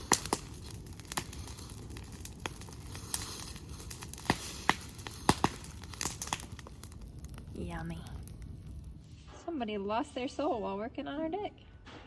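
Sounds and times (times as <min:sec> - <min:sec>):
bonfire crackling and popping: 0:00.0 - 0:10.5.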